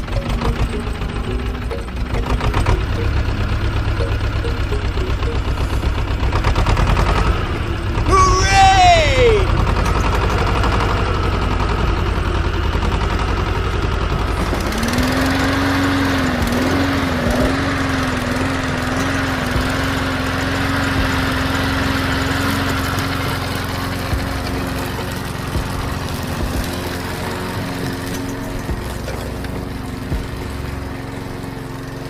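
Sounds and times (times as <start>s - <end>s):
machine motor running: 0.0s - 8.1s, 9.5s - 32.0s.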